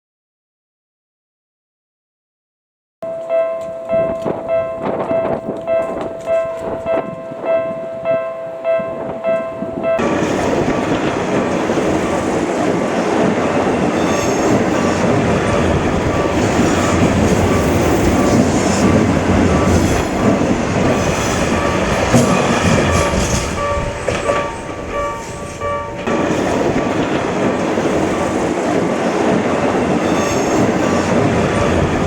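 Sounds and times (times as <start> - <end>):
level crossing warning bell: 3.0 - 32.0
train wheels rushing on rail: 4.0 - 32.0.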